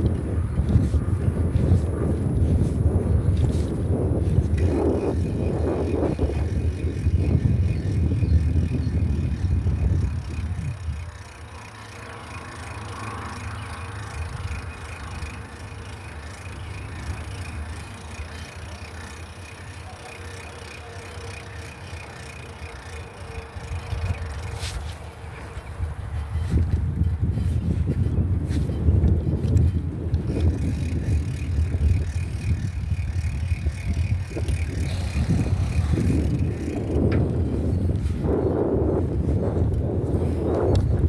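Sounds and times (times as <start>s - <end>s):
road noise: 0.0s - 41.0s
wind rumble on microphone: 0.0s - 41.0s.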